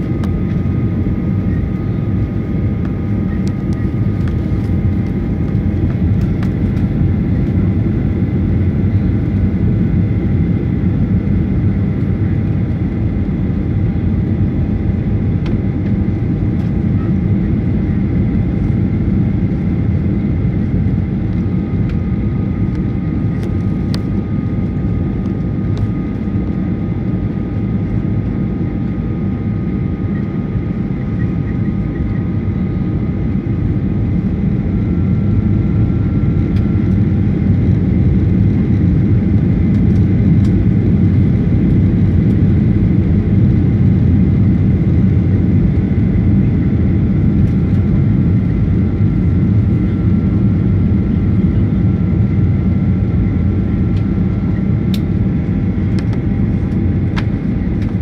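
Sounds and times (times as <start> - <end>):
jet engine and airflow rush: 0.0 - 58.0.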